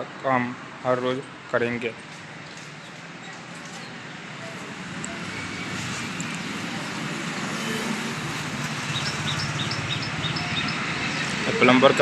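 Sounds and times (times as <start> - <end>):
vehicle engine and tyre noise: 1.2 - 12.0.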